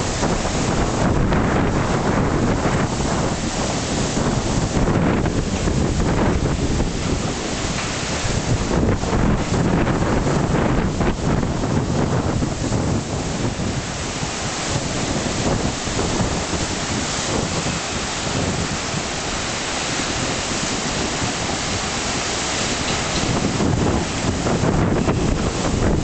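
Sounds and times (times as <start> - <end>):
waves breaking on rocks: 0.0 - 26.0
wind buffeting microphone: 0.0 - 26.0.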